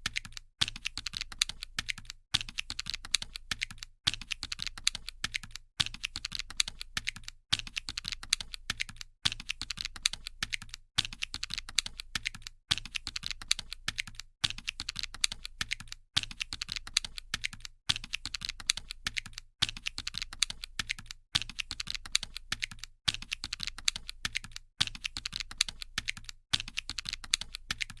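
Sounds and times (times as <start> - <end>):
calculator keys clicking: 0.0 - 28.0.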